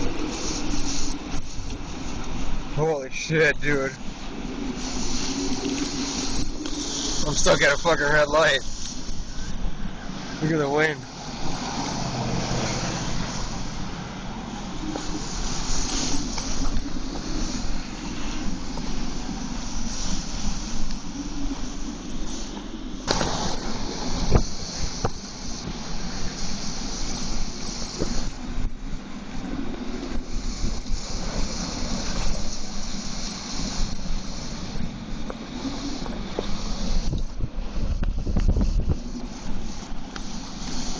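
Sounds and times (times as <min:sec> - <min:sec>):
strong gusting wind around a car: 0:00.0 - 0:40.9.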